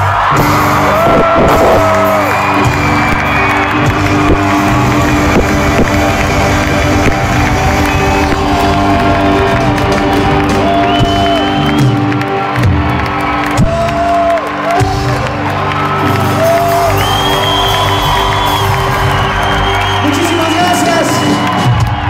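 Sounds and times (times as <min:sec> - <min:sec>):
crowd cheering and whooping: 0:00.0 - 0:22.0
rock band playing live: 0:00.0 - 0:22.0.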